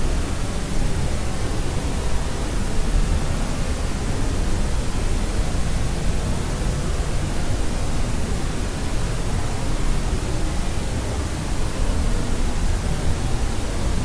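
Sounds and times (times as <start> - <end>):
white noise hiss: 0.0 - 14.0.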